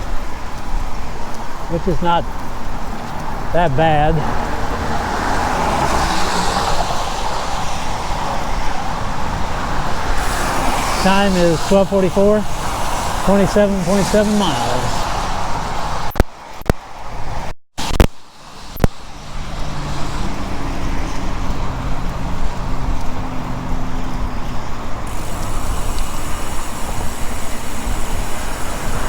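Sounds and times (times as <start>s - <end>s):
road and traffic rush: 0.0s - 29.0s
motor vehicle hum: 0.4s - 16.2s, 17.8s - 29.0s.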